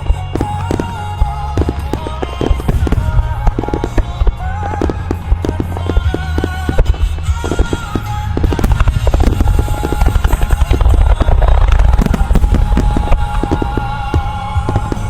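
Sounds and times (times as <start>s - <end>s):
fireworks bursting and crackling: 0.0s - 15.0s
music over loudspeakers: 0.0s - 15.0s.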